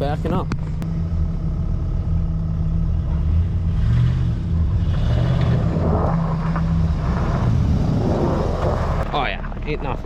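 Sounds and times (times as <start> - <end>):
vehicle engine revving: 0.7 - 10.0.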